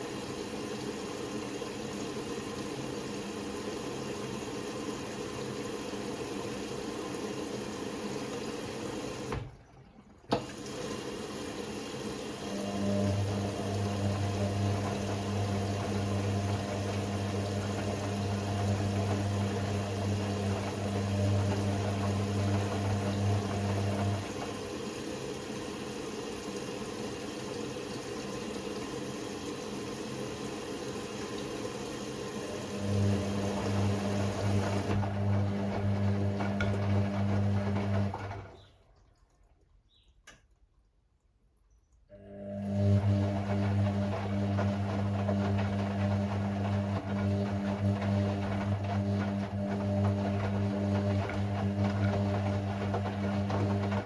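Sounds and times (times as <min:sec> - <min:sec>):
pump humming: 0:00.0 - 0:38.8, 0:42.1 - 0:54.0
water rushing through washing machine: 0:00.0 - 0:40.5, 0:42.1 - 0:54.0.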